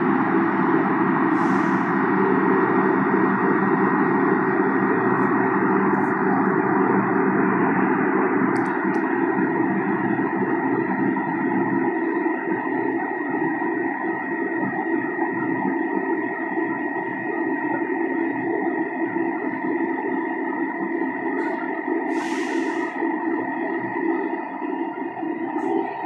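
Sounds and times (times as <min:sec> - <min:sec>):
subway car equipment hum: 0:00.0 - 0:26.0.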